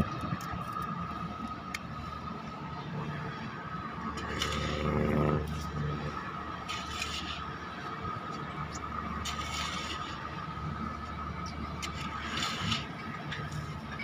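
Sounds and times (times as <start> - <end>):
diesel truck engine: 0.0 - 14.0
low machinery hum: 0.0 - 14.0.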